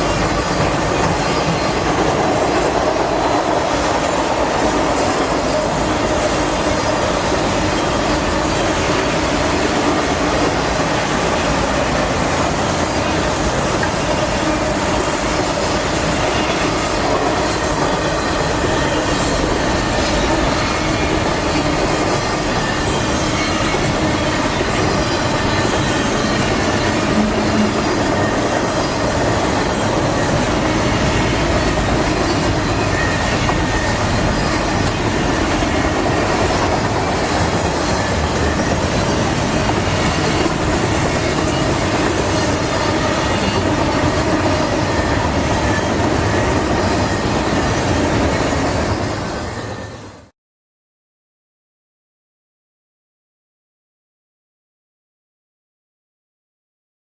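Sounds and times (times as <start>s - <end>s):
train rumbling and rattling on rails: 0.0s - 50.3s
train wheels squealing: 0.0s - 50.3s.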